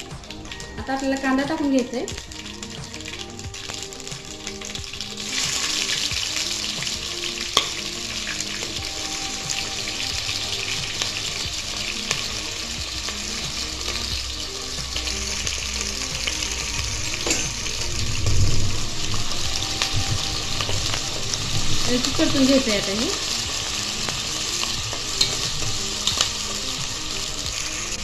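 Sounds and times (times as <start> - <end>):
onion sizzling in hot oil: 0.0 - 28.0.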